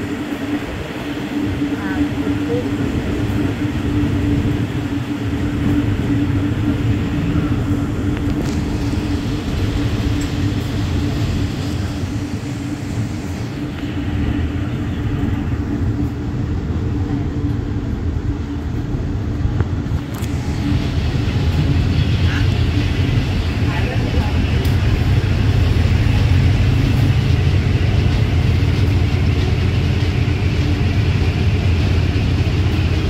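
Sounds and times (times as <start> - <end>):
locomotive engines droning: 0.0 - 33.0
train wheels rumbling on rails: 0.0 - 33.0.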